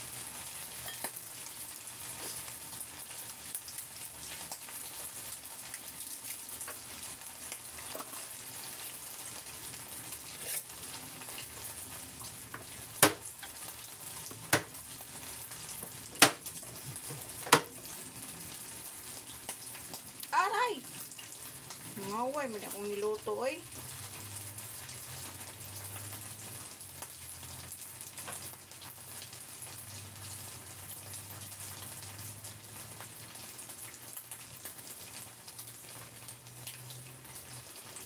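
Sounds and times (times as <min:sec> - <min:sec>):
food sizzling in a pan: 0:00.0 - 0:38.0.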